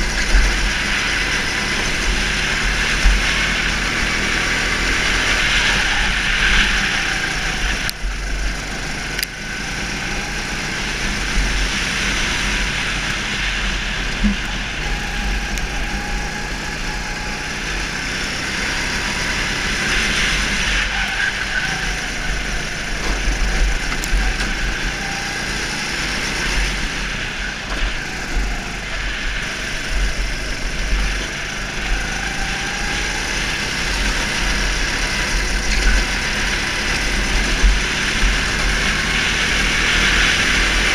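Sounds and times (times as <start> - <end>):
go-kart engine running: 0.0 - 40.9.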